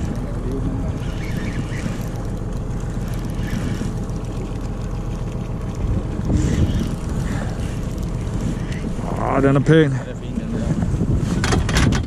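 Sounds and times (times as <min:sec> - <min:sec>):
boat engine idling: 0:00.0 - 0:11.2
water noise: 0:00.0 - 0:11.8
wind: 0:00.0 - 0:12.0.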